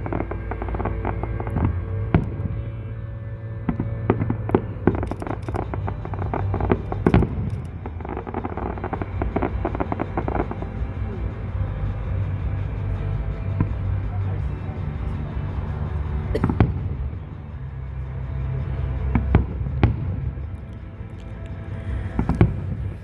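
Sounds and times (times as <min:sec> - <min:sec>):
music: 0:00.0 - 0:23.0.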